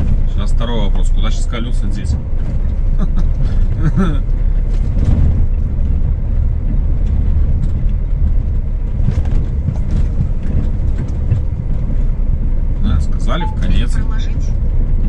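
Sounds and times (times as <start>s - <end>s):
light knocks and rattles: 0.0s - 13.3s
truck diesel engine rumbling: 0.0s - 15.0s.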